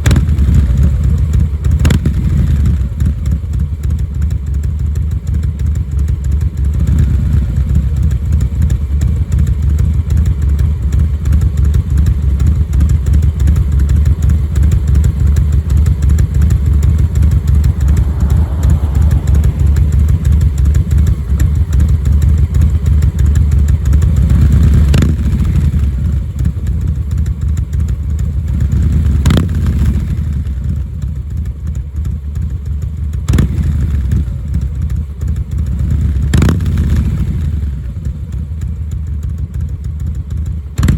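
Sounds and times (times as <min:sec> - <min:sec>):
motorcycle engine idling: 0:00.0 - 0:29.3, 0:29.9 - 0:36.2, 0:37.1 - 0:40.9.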